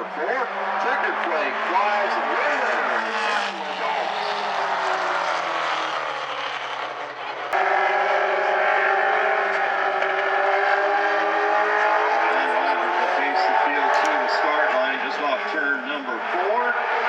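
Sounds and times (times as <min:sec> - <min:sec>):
cars running steadily: 0:00.0 - 0:17.0
race car engines slowing down: 0:00.0 - 0:17.0.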